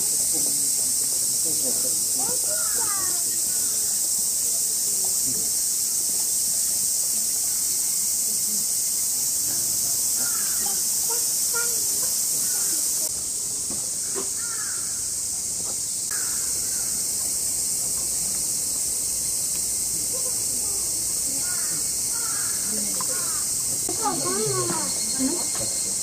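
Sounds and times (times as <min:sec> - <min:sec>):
cicada chorus drone: 0:00.0 - 0:26.0.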